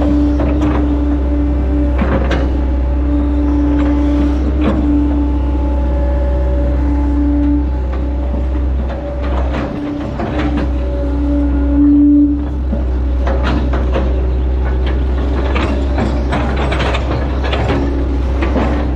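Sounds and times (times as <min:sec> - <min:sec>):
excavator diesel engine running: 0:00.0 - 0:18.9
hydraulic whine: 0:00.0 - 0:18.9.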